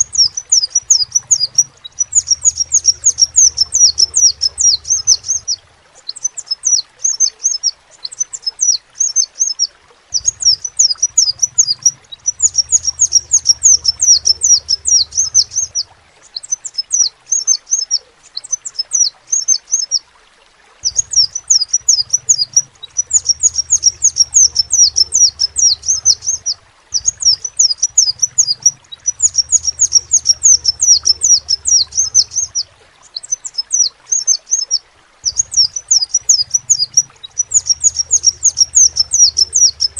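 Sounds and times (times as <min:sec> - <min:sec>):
bird chirping: 0:00.0 - 0:20.0, 0:20.8 - 0:39.9.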